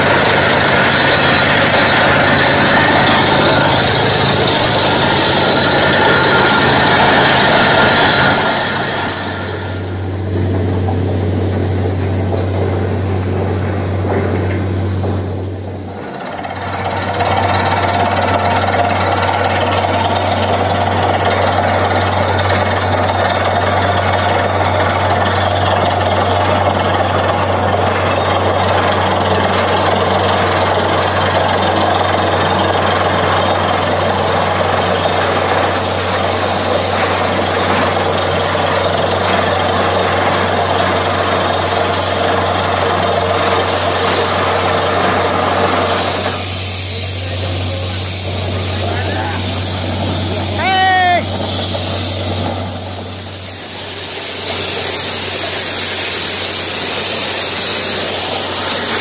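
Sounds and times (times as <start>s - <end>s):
machine humming: 0.0s - 29.1s, 33.4s - 59.0s.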